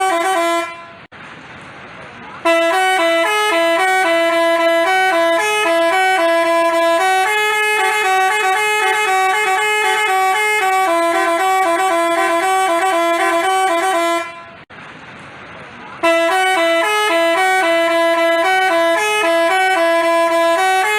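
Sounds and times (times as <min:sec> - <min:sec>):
multi-tone bus horn tune: 0:00.0 - 0:01.1, 0:02.4 - 0:14.7, 0:16.0 - 0:20.9.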